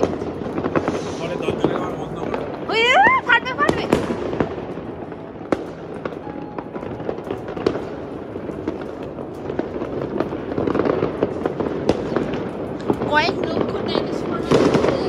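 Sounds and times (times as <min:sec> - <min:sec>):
distant fireworks bangs and crackles: 0:00.0 - 0:15.0.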